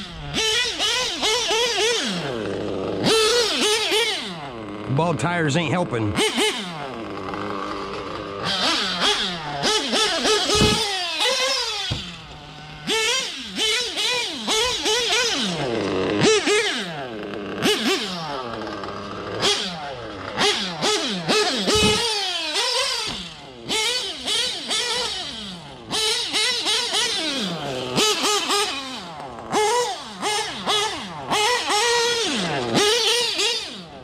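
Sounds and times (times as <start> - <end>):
nitro engine revving: 0.0 - 34.0.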